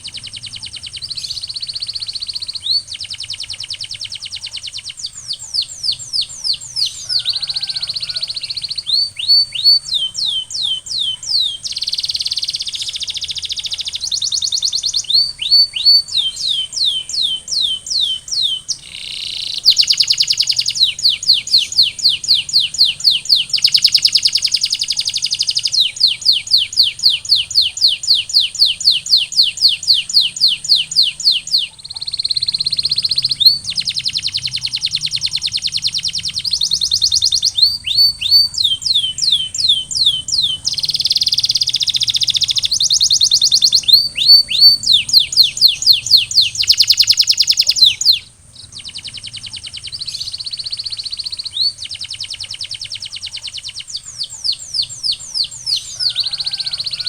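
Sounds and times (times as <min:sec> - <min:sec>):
canary singing trills: 0:00.0 - 0:57.0
steady high-pitched hiss: 0:00.0 - 0:57.0.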